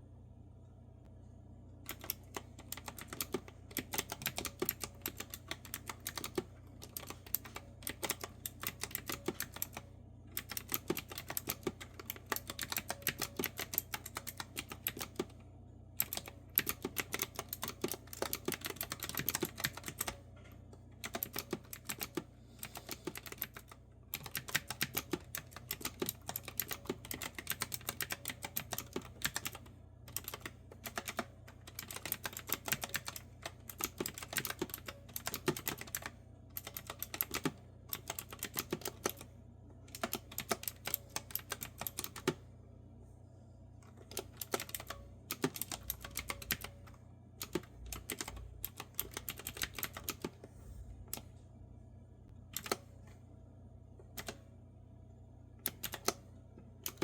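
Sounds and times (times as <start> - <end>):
steady low hum: 0.0 - 57.0
clicky keyboard typing: 1.9 - 15.4, 16.0 - 20.2, 21.0 - 39.3, 39.9 - 42.4, 43.8 - 50.4, 52.5 - 52.9, 54.1 - 54.4, 55.6 - 56.2.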